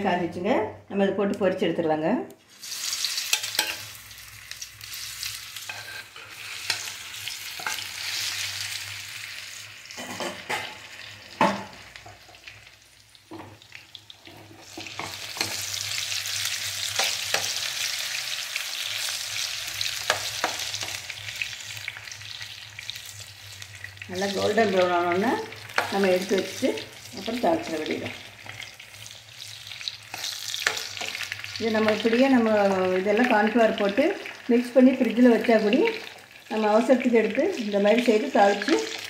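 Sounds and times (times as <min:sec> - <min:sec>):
food sizzling in hot oil: 0:02.5 - 0:39.0.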